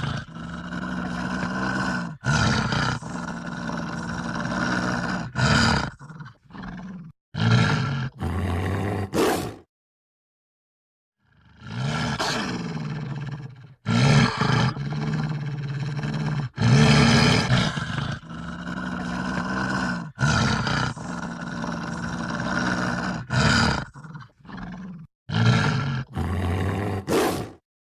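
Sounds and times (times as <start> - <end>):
wolf growling: 0.0 - 9.7, 11.4 - 27.6.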